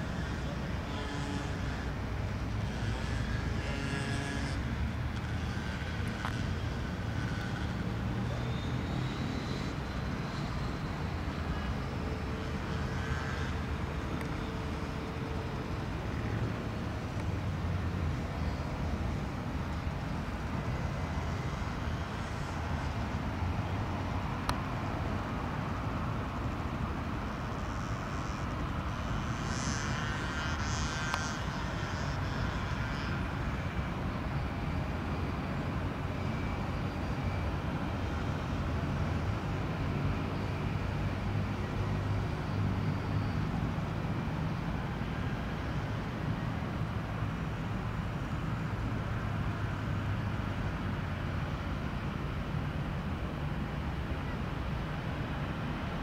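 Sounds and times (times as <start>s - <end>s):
faint engine whine: 0.0s - 56.0s.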